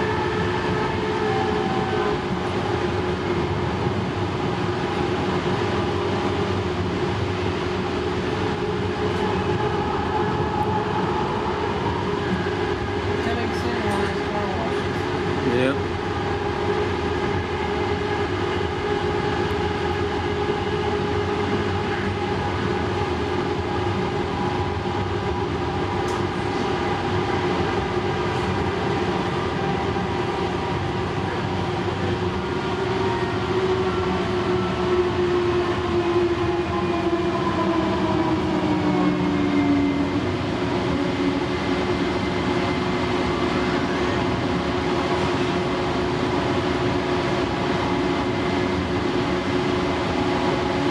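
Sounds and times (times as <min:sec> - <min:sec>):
train rumble on track: 0:00.0 - 0:50.9.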